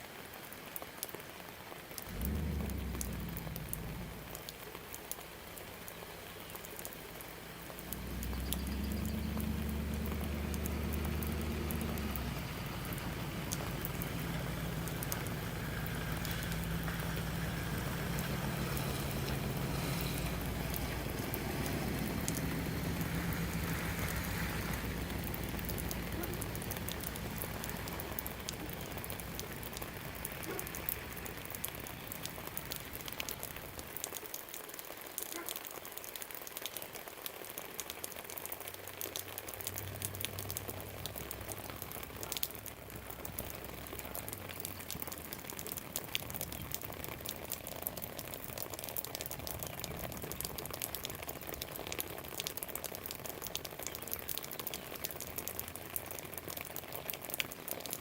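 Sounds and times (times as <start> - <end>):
rain falling and dripping: 0.0 - 58.0.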